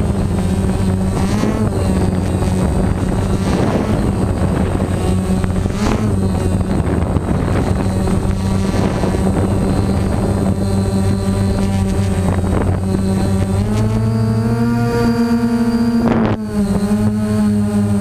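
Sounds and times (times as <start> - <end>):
drone propellers humming: 0.0 - 18.0.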